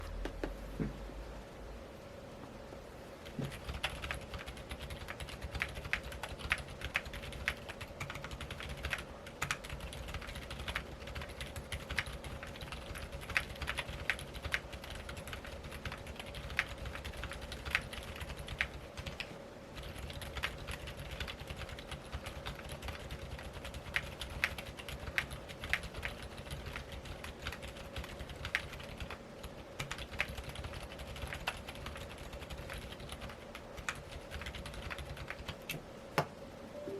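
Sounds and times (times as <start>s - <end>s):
faint steady hum: 0.0s - 36.9s
typing on mechanical keyboard: 3.2s - 35.8s.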